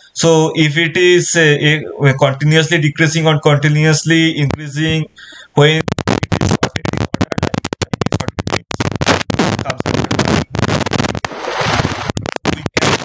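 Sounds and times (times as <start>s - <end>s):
dense crackling: 0.6s - 13.0s.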